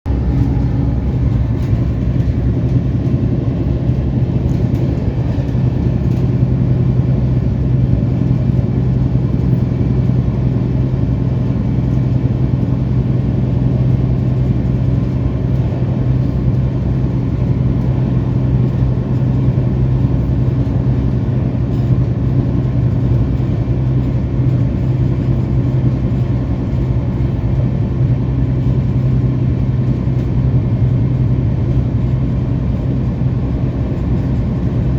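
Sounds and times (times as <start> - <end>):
train coach rumbling on track: 0.0 - 34.9.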